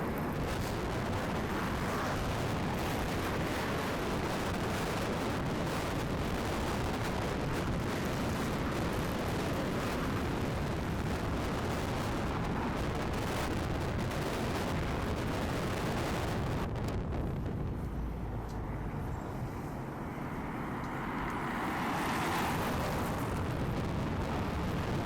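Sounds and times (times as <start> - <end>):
strong wind buffeting microphone: 0.0 - 20.0, 21.4 - 25.0.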